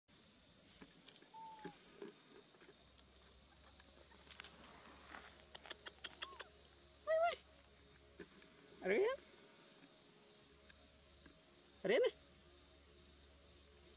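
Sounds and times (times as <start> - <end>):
high-pitched insect drone: 0.1 - 13.9.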